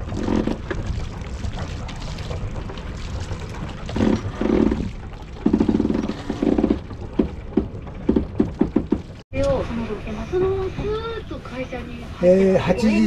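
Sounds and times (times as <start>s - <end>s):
boat creaking: 0.0s - 13.0s.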